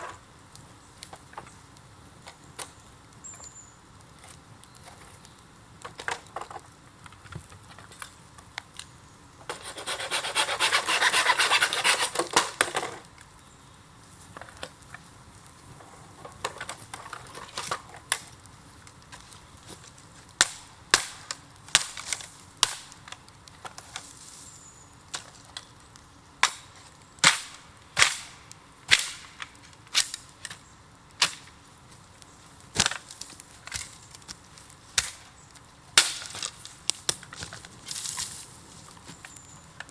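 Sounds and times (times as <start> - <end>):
bamboo fire cracking and popping: 0.0 - 9.6, 11.8 - 39.9.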